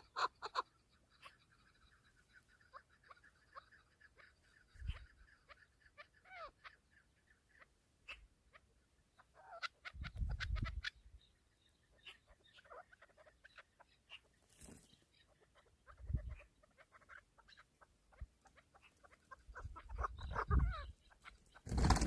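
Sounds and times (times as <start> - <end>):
faint bird chirps and clucks: 0.0 - 22.0.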